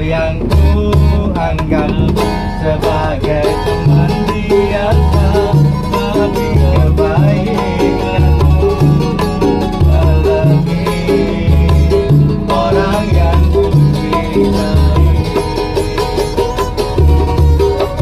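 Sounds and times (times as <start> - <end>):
plucked strings: 0.0 - 18.0
repeating bass line: 0.0 - 18.0.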